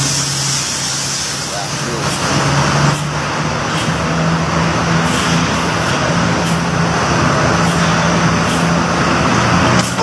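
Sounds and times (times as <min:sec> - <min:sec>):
bus diesel engine droning: 0:00.0 - 0:10.0.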